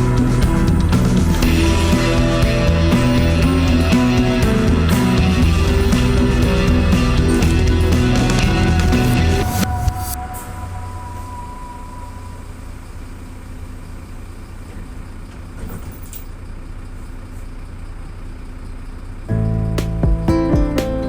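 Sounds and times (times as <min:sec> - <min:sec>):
bus engine rumble: 0:00.0 - 0:20.0
road noise: 0:00.0 - 0:20.0.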